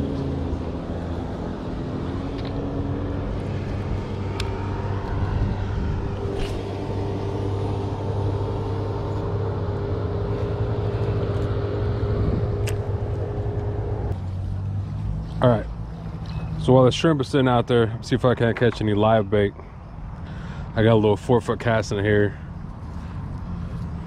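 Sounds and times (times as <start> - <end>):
motor engine droning: 0.0 - 24.0.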